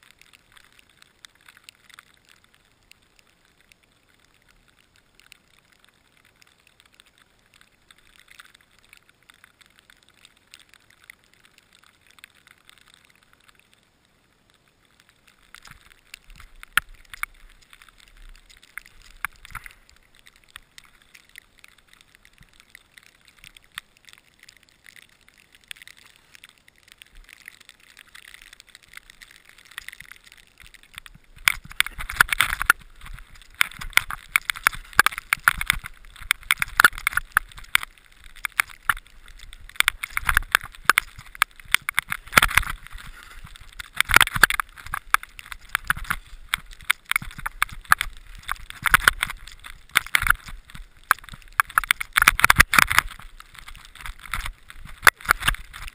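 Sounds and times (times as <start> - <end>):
faint hiss: 0.0 - 51.6
small knocks and crackles: 0.0 - 55.9.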